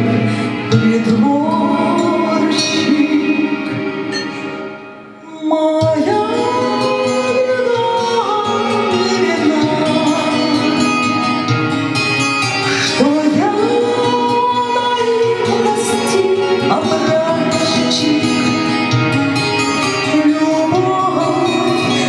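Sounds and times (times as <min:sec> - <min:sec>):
recorded backing track: 0:00.0 - 0:22.0
woman singing into a microphone: 0:00.0 - 0:22.0.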